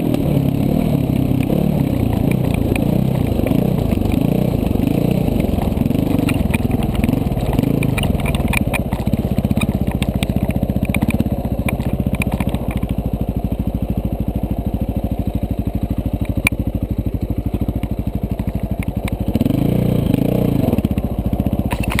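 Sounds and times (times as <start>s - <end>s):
sharp clicks and clatter: 0.0s - 13.5s, 14.9s - 22.0s
motorcycle engine revving: 0.0s - 22.0s.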